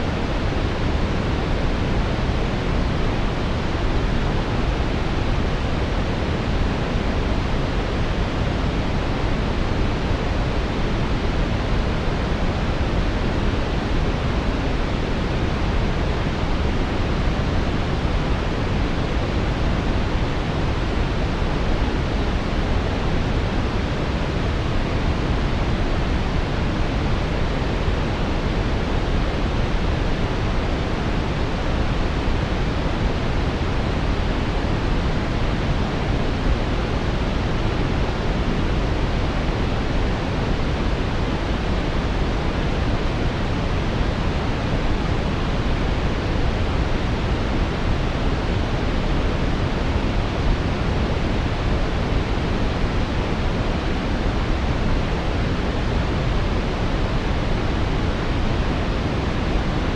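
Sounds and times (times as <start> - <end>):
steady brown noise: 0.0 - 59.9.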